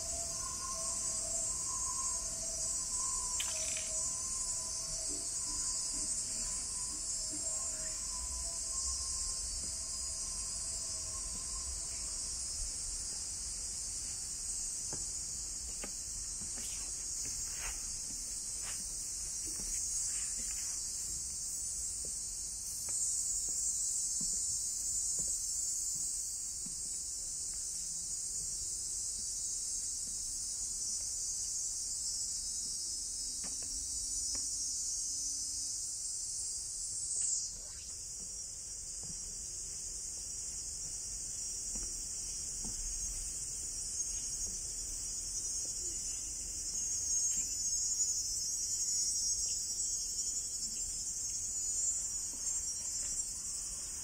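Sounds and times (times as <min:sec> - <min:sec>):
insects chorus drone: 0:00.0 - 0:54.0.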